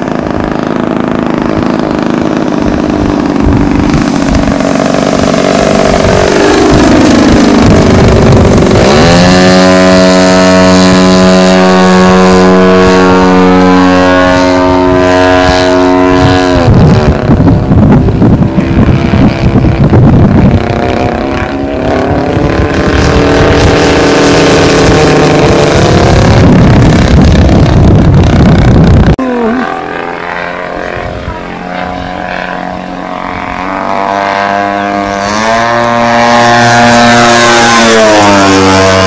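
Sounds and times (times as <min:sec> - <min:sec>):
model airplane engine: 0:00.0 - 0:39.0
wind buffeting microphone: 0:00.0 - 0:39.0.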